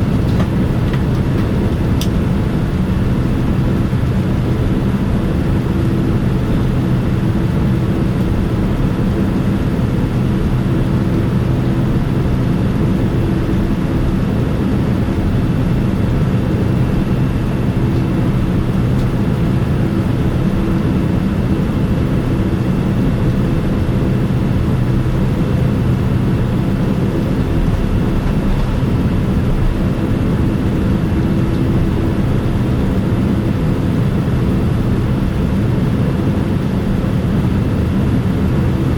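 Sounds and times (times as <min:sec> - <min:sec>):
airliner cabin engine rumble: 0:00.0 - 0:38.9
constant hums: 0:00.0 - 0:38.9.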